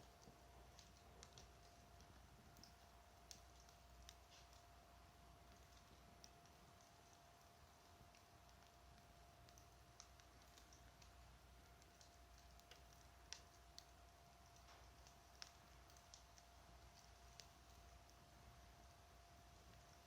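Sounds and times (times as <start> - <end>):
faint steady hum: 0.0 - 20.0
wood fire crackling: 0.0 - 20.0.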